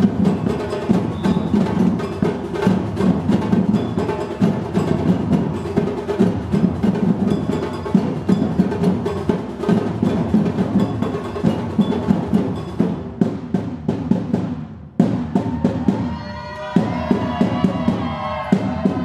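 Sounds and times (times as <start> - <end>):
low drum beats: 0.0 - 19.0.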